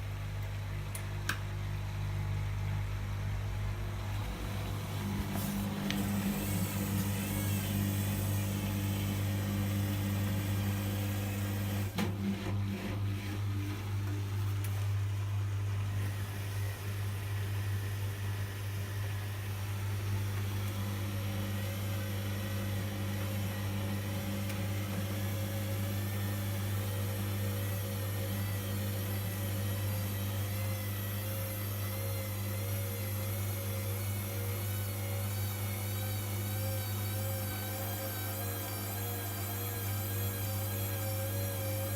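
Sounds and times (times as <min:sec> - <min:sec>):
washing machine electrical hum: 0:00.0 - 0:41.9.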